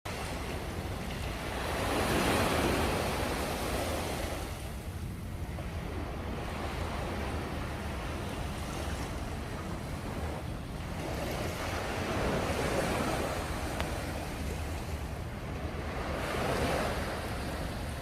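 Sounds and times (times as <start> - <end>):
sea waves washing on shore: 0.1 - 18.0
wind rumble on microphone: 0.1 - 18.0.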